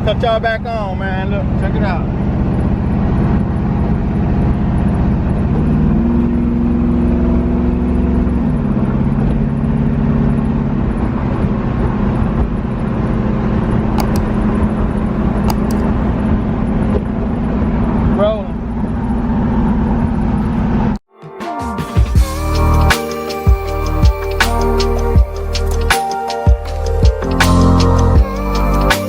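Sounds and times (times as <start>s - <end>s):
car engine running: 0.0s - 21.0s, 22.2s - 29.0s.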